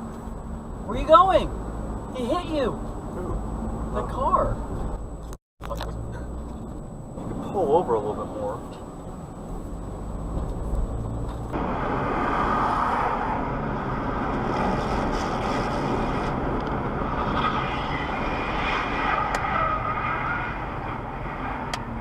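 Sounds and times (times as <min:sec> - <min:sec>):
vehicle driving noise: 0:00.0 - 0:22.0.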